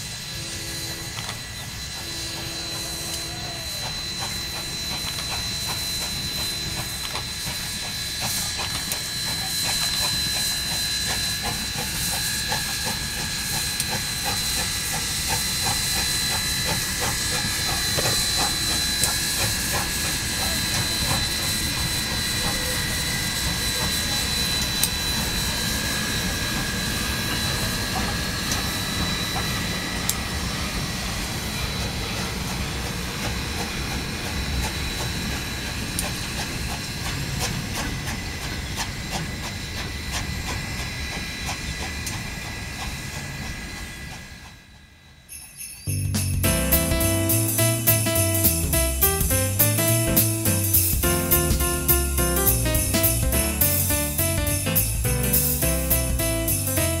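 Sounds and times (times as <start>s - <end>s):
steam hissing: 0.0s - 57.0s
train rumbling: 0.0s - 57.0s.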